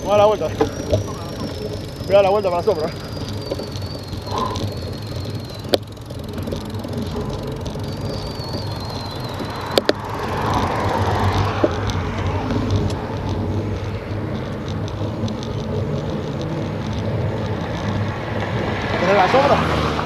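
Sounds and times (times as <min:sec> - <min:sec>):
sharp clicks: 0:00.0 - 0:19.9
bicycle tyre noise on concrete: 0:00.0 - 0:20.0
wind noise: 0:00.0 - 0:20.0.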